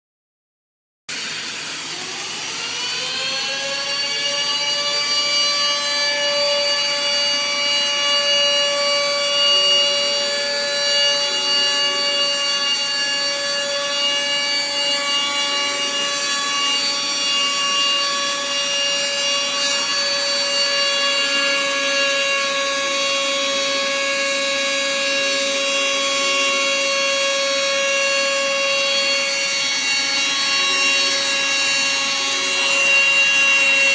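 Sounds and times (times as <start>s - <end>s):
cutter cutting and rubbing: 1.1s - 33.9s
spindle motor whine: 1.1s - 33.9s.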